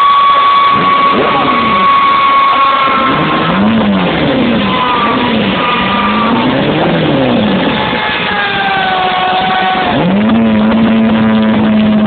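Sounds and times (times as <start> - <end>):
motorcycle engine revving: 0.0 - 8.2, 9.3 - 12.0
high whine sliding downward: 0.0 - 12.0.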